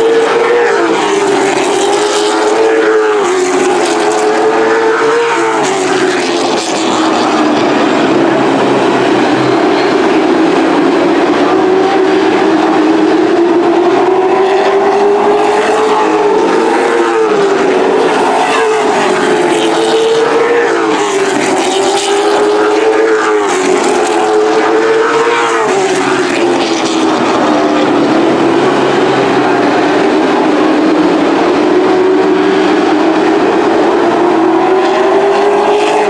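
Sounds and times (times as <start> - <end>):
racing truck engines: 0.0 - 36.0.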